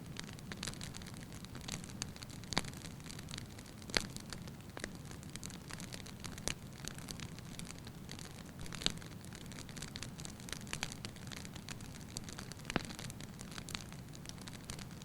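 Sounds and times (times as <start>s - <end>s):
fire crackling and popping: 0.0s - 15.0s
low rumble of flame: 0.0s - 15.0s.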